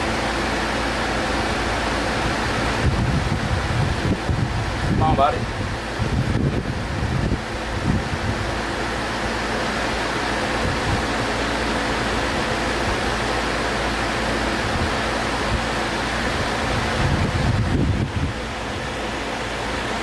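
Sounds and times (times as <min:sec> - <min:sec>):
condenser fan air rush: 0:00.0 - 0:20.0.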